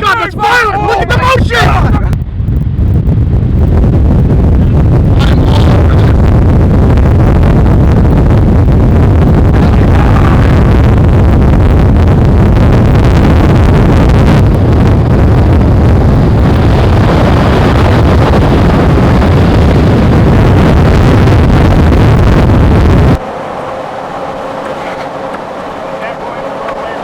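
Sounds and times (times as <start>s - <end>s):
strong wind rumbling rush: 0.0s - 27.0s.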